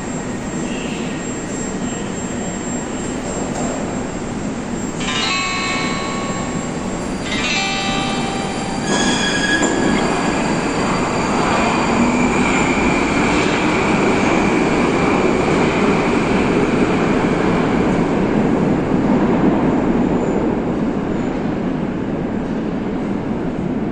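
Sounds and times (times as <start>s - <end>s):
high whine of train: 0.0s - 23.9s
metro train wheels rumbling: 0.0s - 23.9s.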